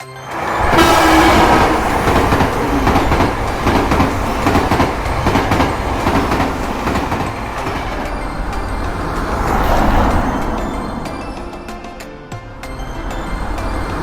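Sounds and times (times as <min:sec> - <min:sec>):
train wheels clattering: 0:00.0 - 0:14.0.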